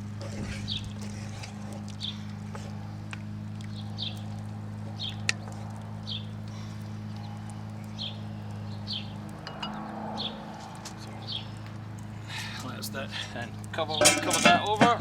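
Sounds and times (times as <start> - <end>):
steady low hum: 0.0 - 15.0
wood fire crackling and popping: 0.0 - 15.0.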